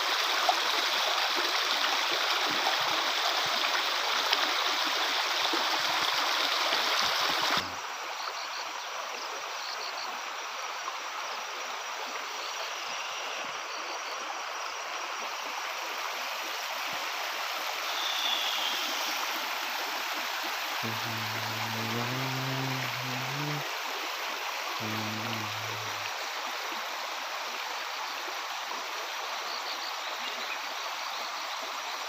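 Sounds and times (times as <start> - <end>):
stream water rushing: 0.0 - 8.1, 14.4 - 32.0.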